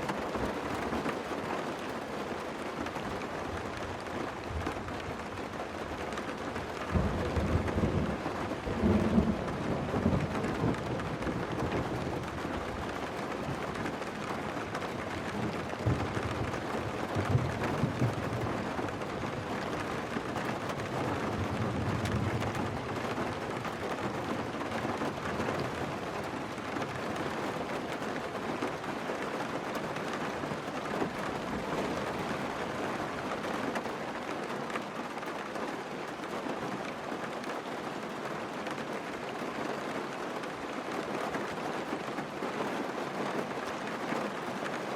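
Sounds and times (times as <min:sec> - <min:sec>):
steady rain: 0:00.0 - 0:44.9.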